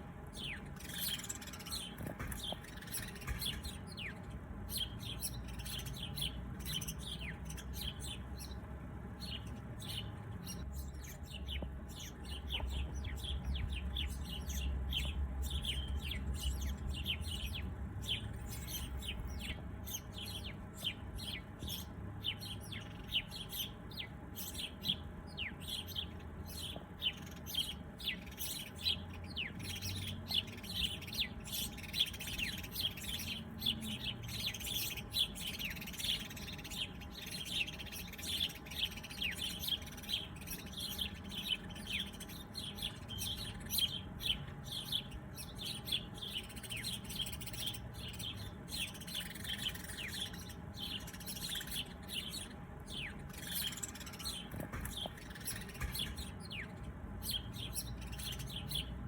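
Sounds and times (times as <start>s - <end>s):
low background rumble: 0.0s - 59.0s
small birds chirping: 0.0s - 59.0s.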